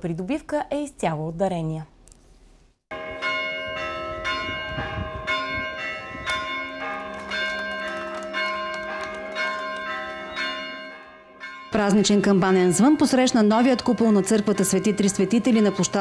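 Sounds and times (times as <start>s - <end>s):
church bells pealing: 2.9s - 16.0s.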